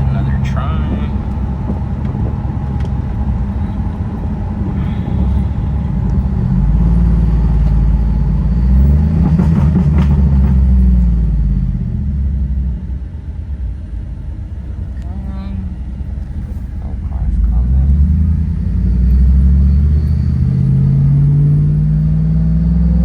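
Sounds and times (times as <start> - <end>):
truck exhaust accelerating: 0.0 - 23.0.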